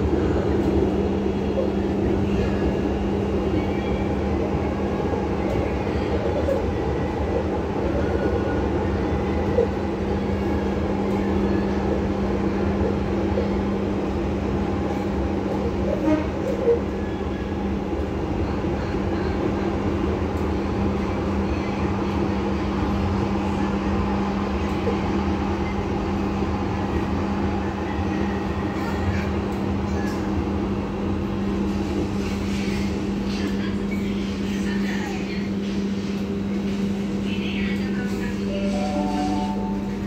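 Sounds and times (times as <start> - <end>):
train running noise: 0.0 - 40.0.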